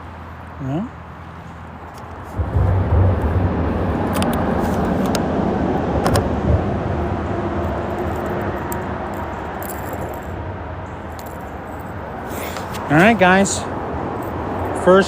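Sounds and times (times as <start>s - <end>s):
freeway traffic rumble: 0.0s - 15.0s.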